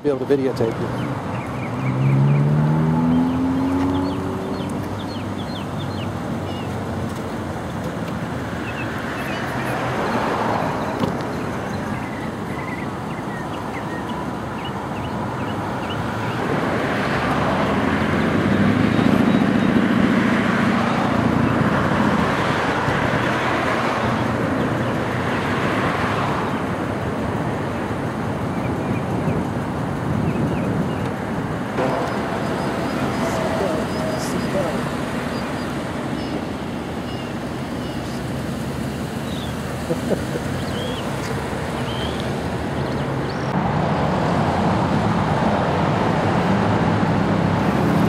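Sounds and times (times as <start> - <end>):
road traffic noise: 0.0 - 48.0
vehicle passing engine hum: 0.1 - 48.0.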